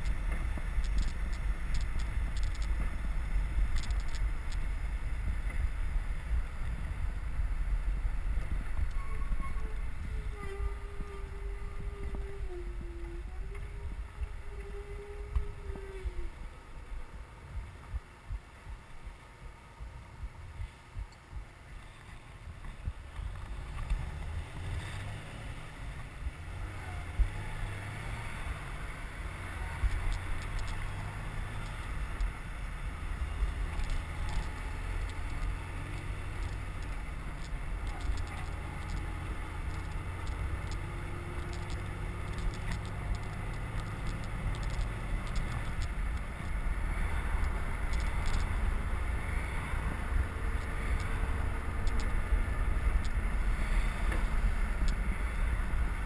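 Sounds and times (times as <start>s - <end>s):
faint wavering whine: 0.0s - 56.0s
wind buffeting microphone: 0.0s - 56.0s.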